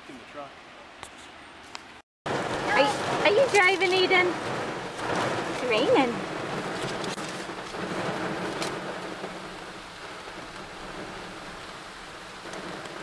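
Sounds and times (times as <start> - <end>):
heavy rain heard inside a truck: 2.3 - 13.0.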